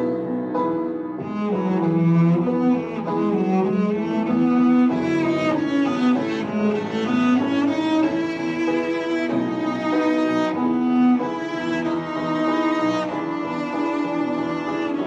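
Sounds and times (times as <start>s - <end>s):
bowed cello melody: 0.0s - 15.0s.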